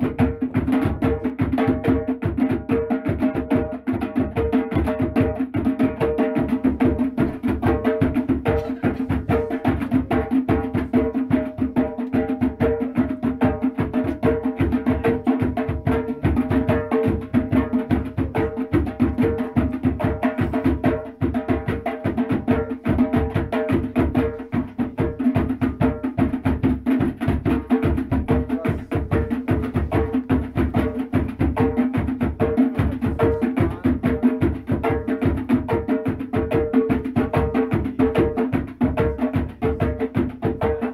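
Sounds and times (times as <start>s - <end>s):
fast drum beat music: 0.0s - 40.9s.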